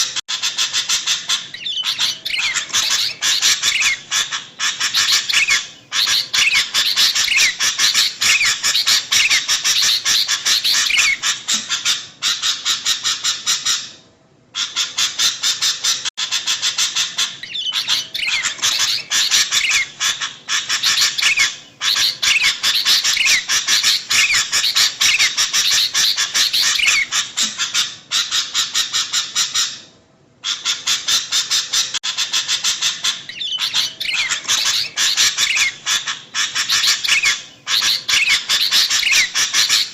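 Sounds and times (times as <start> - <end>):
bird chattering calls: 0.0 - 13.9, 14.6 - 29.8, 30.4 - 39.9.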